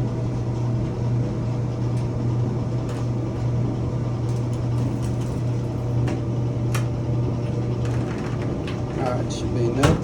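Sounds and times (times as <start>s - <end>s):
clothes dryer humming: 0.0s - 10.0s.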